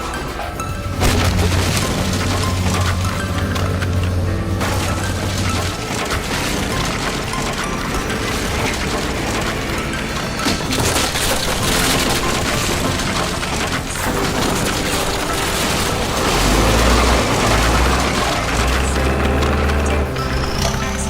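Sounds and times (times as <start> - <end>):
background music: 0.0 - 21.0
structure crashing and splintering: 0.0 - 21.0.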